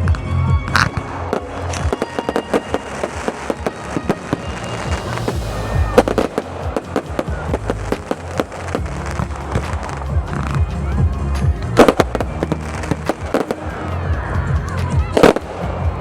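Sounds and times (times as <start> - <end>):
background music: 0.0 - 16.0
fireworks crackling bangs: 0.0 - 16.0.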